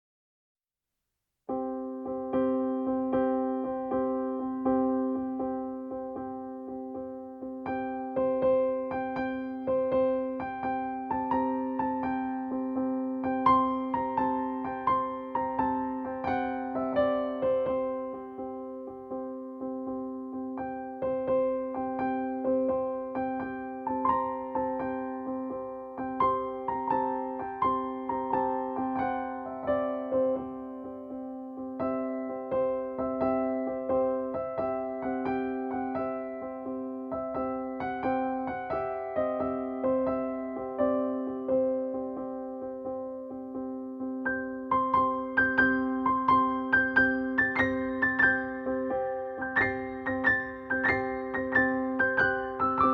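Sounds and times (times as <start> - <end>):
slow gentle piano music: 1.5 - 52.9.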